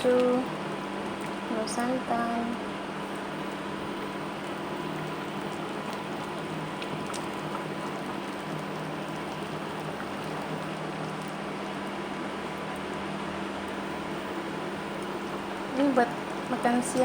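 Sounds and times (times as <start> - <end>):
pot simmering with crackling hiss: 0.0 - 17.0.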